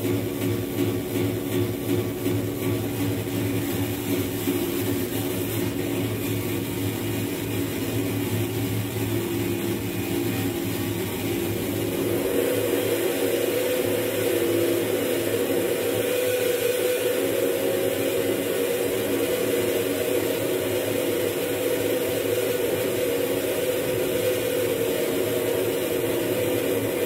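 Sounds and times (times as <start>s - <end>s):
whirring electronic drone: 2.9s - 27.0s.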